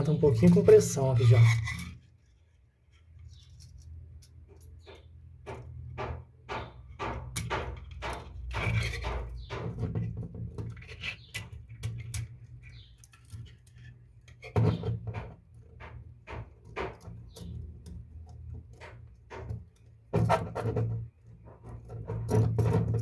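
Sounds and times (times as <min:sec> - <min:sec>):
small metal clicks and scrapes: 0:00.0 - 0:05.9, 0:07.3 - 0:23.0.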